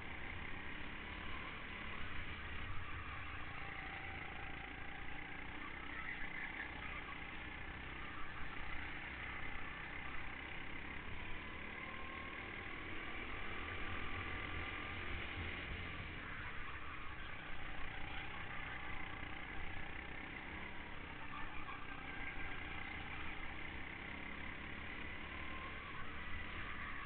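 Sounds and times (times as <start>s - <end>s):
go-kart engine drone: 0.0s - 27.0s.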